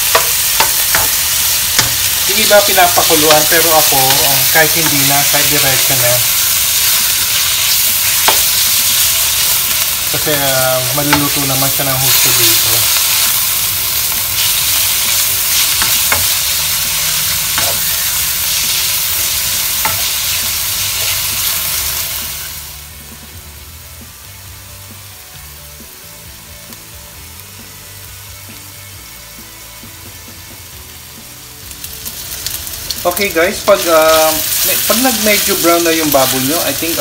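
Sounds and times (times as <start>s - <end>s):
meat sizzling in hot oil: 0.0s - 37.0s.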